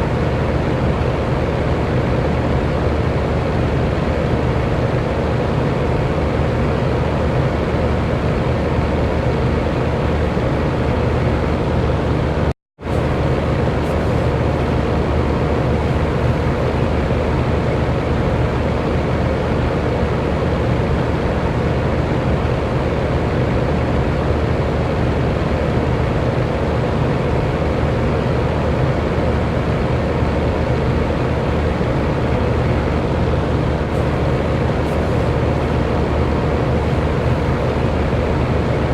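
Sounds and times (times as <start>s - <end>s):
electric fan rushing: 0.0s - 38.9s
faint fan hum: 0.0s - 38.9s.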